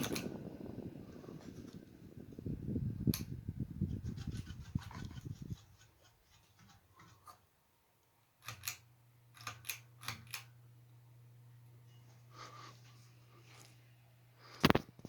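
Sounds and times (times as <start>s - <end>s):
faint low motor hum: 0.0s - 15.0s.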